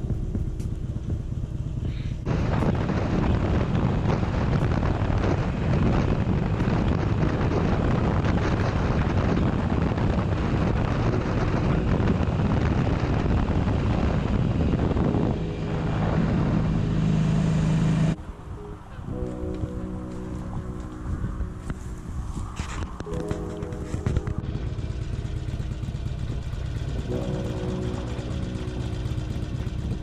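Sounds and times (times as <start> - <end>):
motorcycle engine running: 0.0 - 18.2, 19.1 - 30.0
wind rushing over microphone: 0.0 - 30.0.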